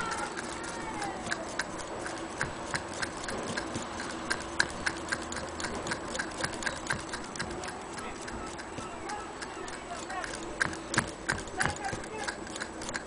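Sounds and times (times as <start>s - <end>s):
sewing machine clicking: 0.0s - 13.0s.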